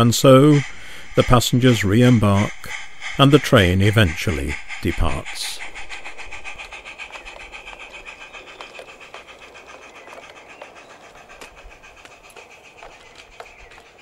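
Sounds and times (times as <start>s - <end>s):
model train ticking on track: 0.0s - 14.0s.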